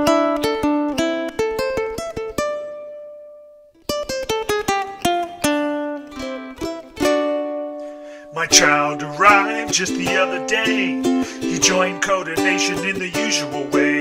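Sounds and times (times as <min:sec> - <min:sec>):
ukulele picking: 0:00.0 - 0:14.0.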